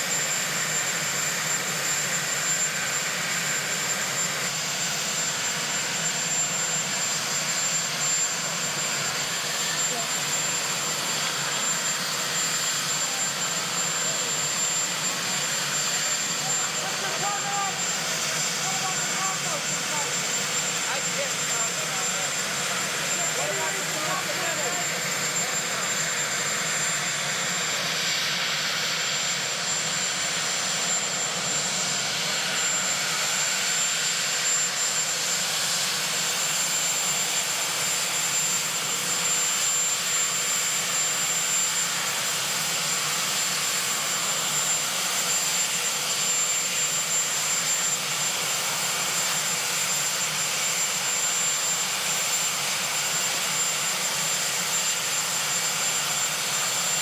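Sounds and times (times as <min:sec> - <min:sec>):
helicopter turbine engines running: 0:00.0 - 0:57.0.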